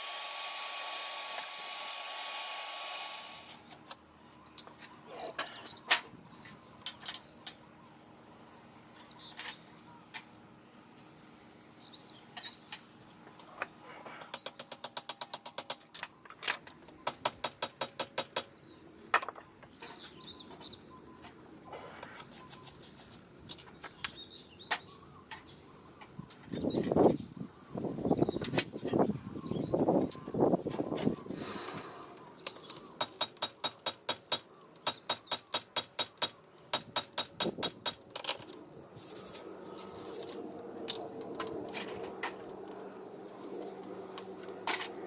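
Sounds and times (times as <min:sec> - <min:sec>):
small birds chirping: 0:03.5 - 0:41.1.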